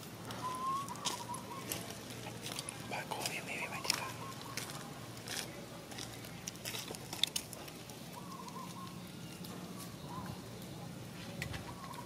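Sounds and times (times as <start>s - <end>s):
monkey eating with crackling clicks: 0.2s - 10.7s.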